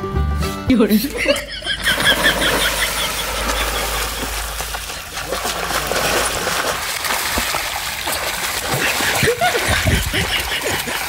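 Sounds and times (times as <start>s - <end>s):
pond water splashing: 1.1s - 11.0s.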